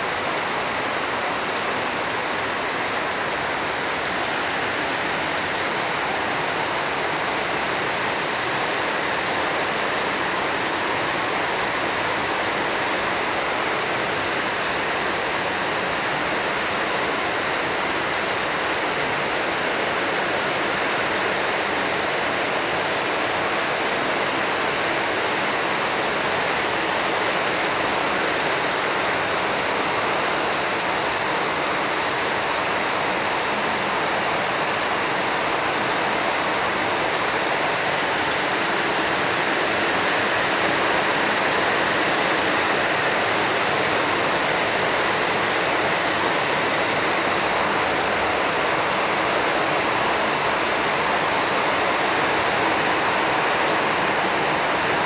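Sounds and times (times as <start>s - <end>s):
steady rushing hiss: 0.0s - 55.0s.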